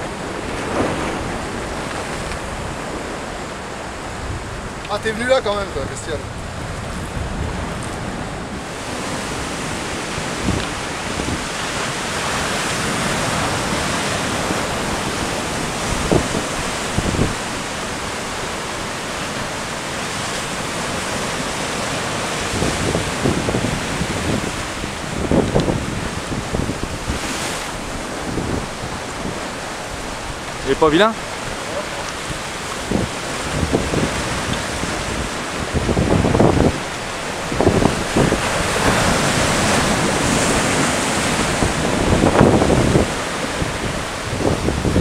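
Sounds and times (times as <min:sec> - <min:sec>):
sea surf breaking over rocks: 0:00.0 - 0:45.0
wind buffeting microphone: 0:00.0 - 0:45.0.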